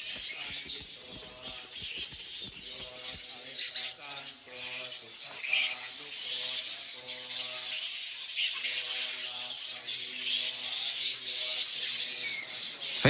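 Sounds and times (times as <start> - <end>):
flying foxes screeching: 0.0 - 13.0.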